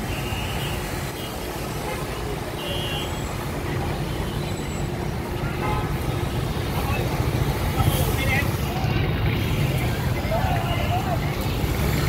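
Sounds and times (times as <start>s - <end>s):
motorbike engines: 0.0s - 12.0s
truck engines: 0.0s - 12.0s.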